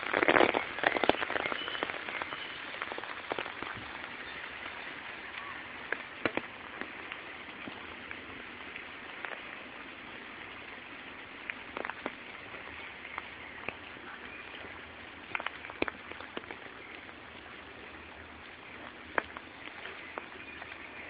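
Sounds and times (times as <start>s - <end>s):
steady hiss: 0.0s - 21.0s
water drops from trees: 0.0s - 21.0s.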